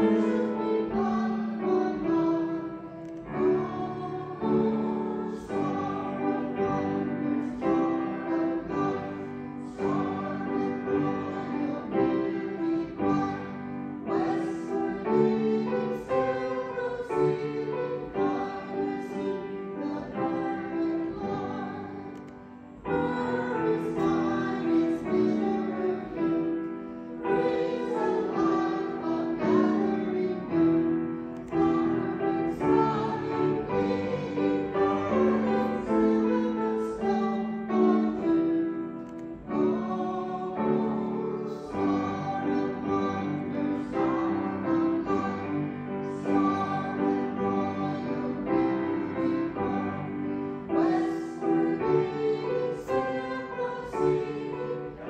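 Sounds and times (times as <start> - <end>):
hymn singing: 0.0 - 55.0
piano: 0.0 - 55.0.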